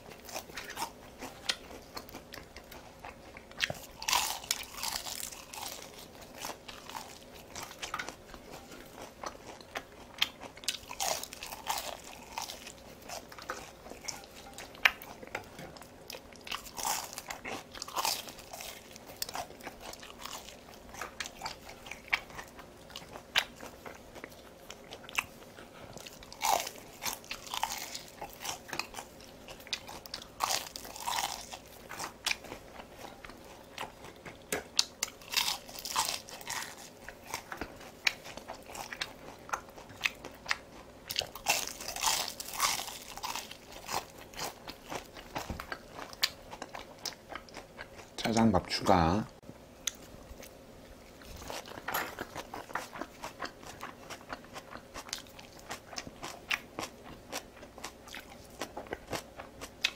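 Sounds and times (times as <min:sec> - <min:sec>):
crunching fried peppers: 0:00.0 - 0:49.2, 0:49.8 - 0:59.9.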